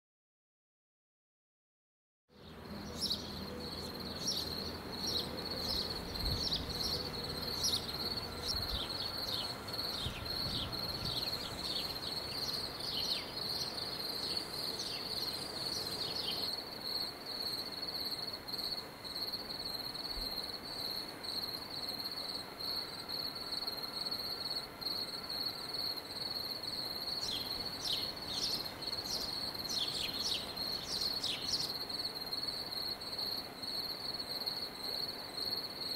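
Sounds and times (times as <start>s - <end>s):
cricket trilling: 2.4s - 35.9s.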